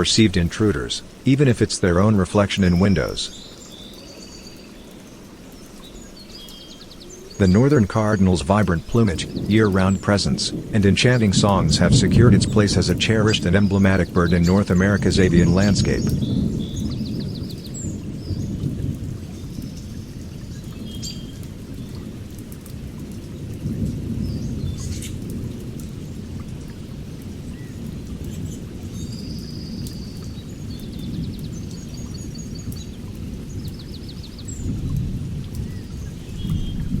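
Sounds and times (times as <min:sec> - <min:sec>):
songbird chirps and trills: 0:00.0 - 0:37.0.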